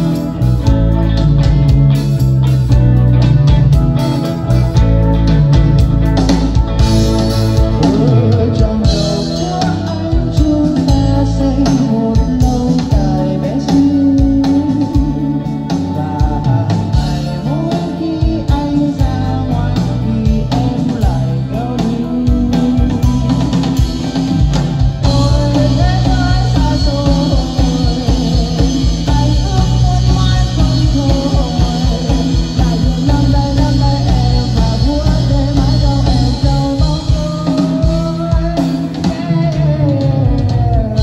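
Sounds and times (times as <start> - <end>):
guitar: 0.0 - 41.0
rock band playing: 0.0 - 41.0.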